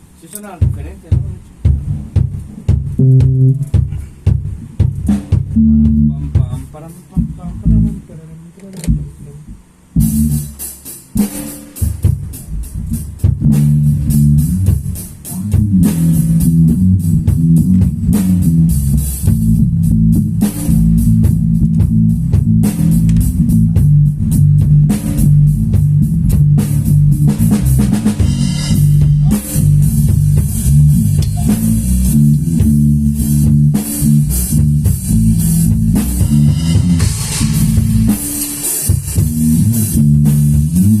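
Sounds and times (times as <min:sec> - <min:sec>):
drum kit: 0:00.0 - 0:41.0
heavy rock guitar and bass riffing: 0:02.2 - 0:06.6, 0:11.8 - 0:41.0.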